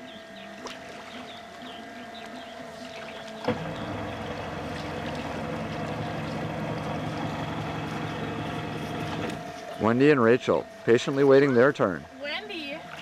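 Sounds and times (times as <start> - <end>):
jet ski engine idling: 0.0 - 13.0.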